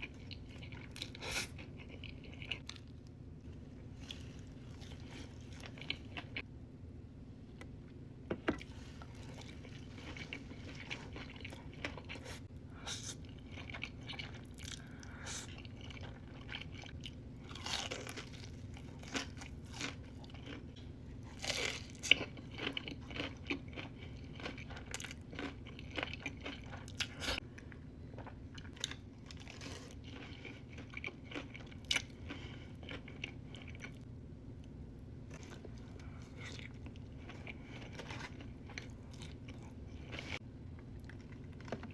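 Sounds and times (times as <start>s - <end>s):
person chewing crunchy food: 0.0s - 6.5s, 8.4s - 34.1s, 35.2s - 41.9s
faint low hum: 0.0s - 41.9s.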